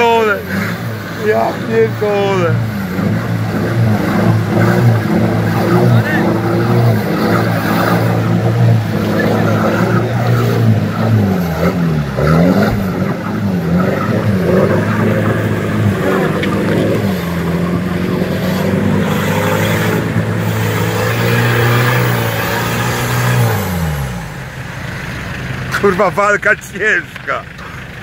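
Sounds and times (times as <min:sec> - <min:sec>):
water splashing and rushing: 0:00.0 - 0:26.5
off-road vehicle engine revving: 0:00.0 - 0:28.0.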